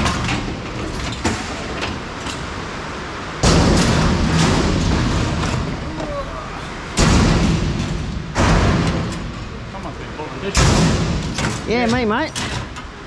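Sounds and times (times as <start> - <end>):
heavy rain on a metal roof: 0.0 - 13.0.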